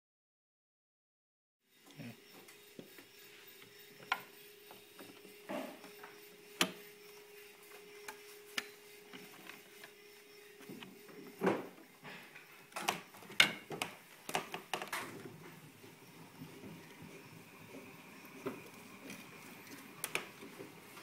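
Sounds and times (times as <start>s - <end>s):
faint steady hum: 1.7s - 21.0s.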